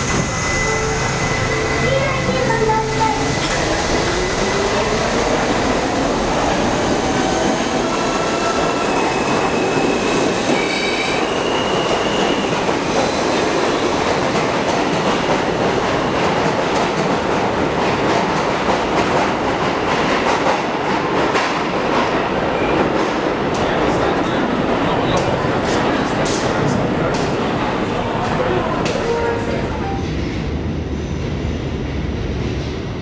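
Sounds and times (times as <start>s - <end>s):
subway train rumble: 0.0s - 33.0s.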